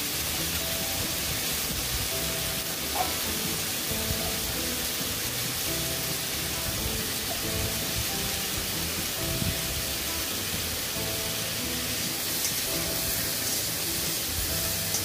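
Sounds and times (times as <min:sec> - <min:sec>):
background music: 0:00.0 - 0:15.0
vegetables sizzling in oil: 0:00.0 - 0:15.0.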